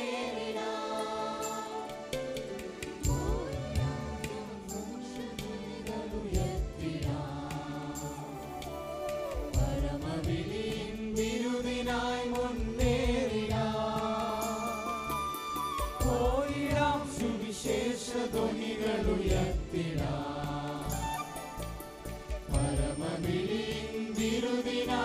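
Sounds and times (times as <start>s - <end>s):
group of voices singing: 0.0s - 15.2s, 16.0s - 25.0s.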